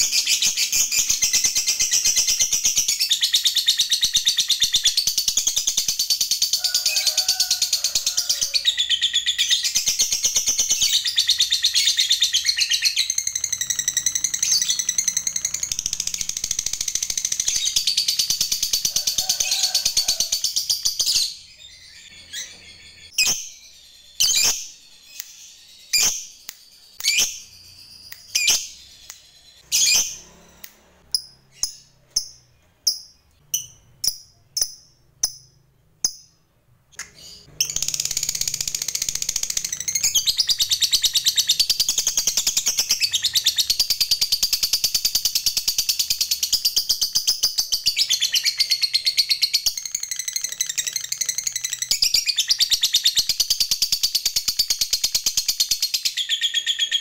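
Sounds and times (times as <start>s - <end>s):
lovebird chirping: 0.0s - 19.3s, 20.1s - 57.0s.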